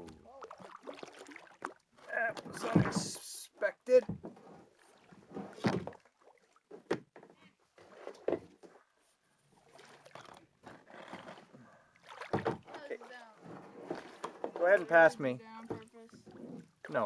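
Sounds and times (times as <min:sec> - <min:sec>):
paddle splashing in water: 0:00.0 - 0:07.1, 0:09.5 - 0:17.0.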